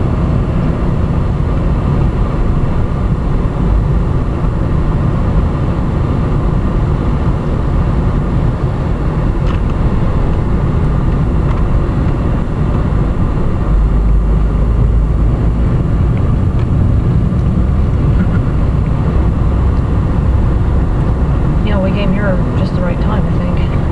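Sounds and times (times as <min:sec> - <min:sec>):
car driving rumble from inside: 0:00.0 - 0:23.9.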